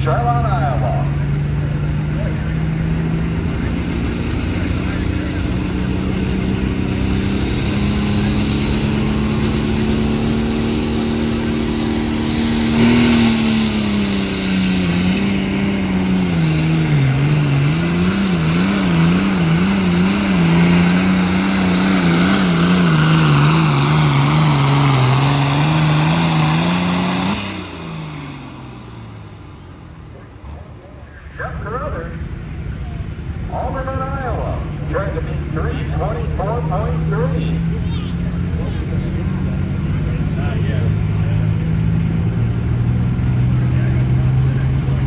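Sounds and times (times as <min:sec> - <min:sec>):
vehicle engine at full throttle: 0:00.0 - 0:45.0.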